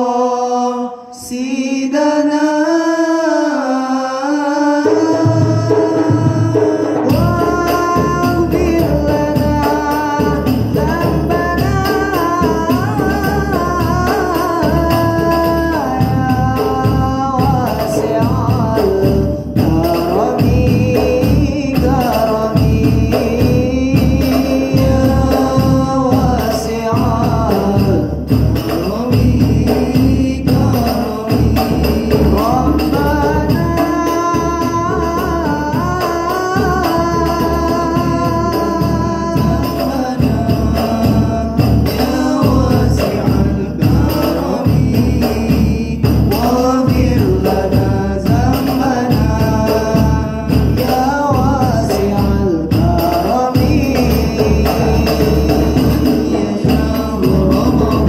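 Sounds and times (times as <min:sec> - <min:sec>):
male voices singing: 0:00.0 - 0:58.0
man singing devotional song: 0:00.0 - 0:58.0
hand-beaten frame drums: 0:04.9 - 0:58.0.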